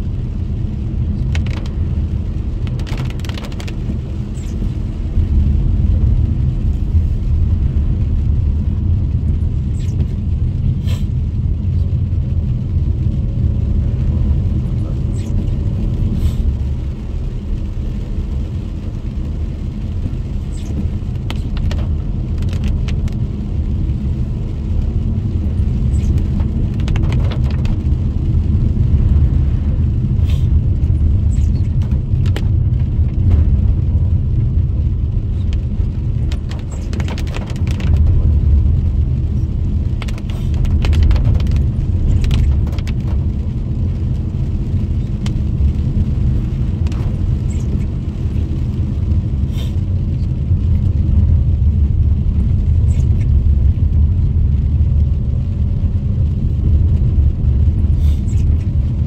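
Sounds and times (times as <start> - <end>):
engine and tyre rumble: 0.0 - 59.0
rain tapping on windscreen: 0.0 - 59.0.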